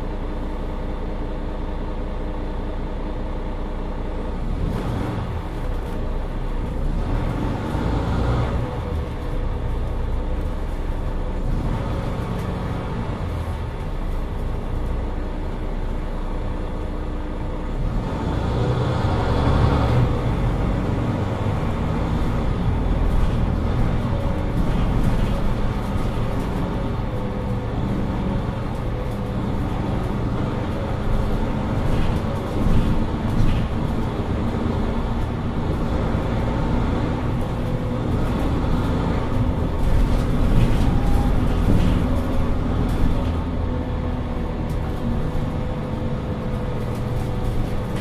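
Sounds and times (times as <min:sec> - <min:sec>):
bus engine and road drone: 0:00.0 - 0:48.0.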